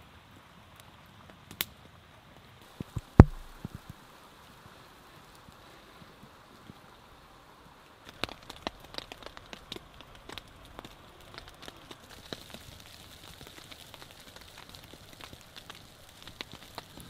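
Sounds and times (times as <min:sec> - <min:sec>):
faint steady hiss: 0:00.0 - 0:17.0
rain pattering on a tarp: 0:00.0 - 0:17.0.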